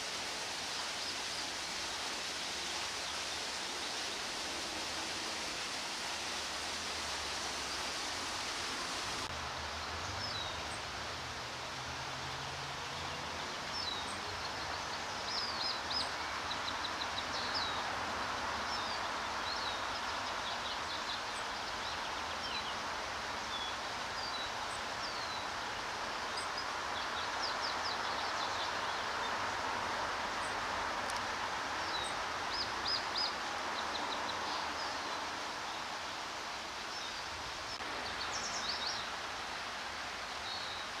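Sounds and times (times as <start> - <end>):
steady background hiss: 0.0 - 41.0.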